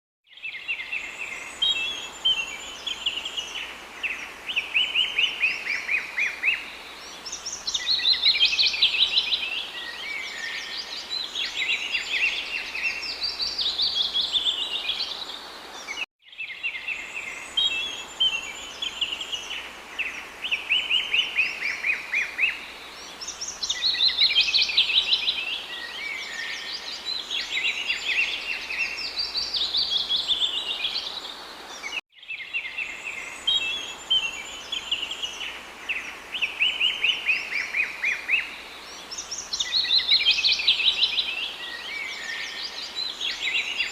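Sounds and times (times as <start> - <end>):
songbirds singing and chirping: 0.2 - 43.9.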